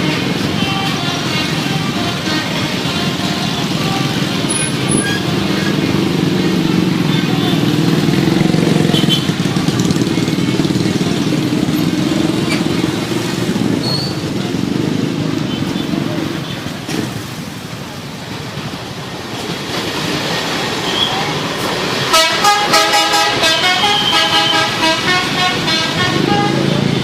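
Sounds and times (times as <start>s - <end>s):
heavy vehicle engines passing: 0.0s - 27.0s.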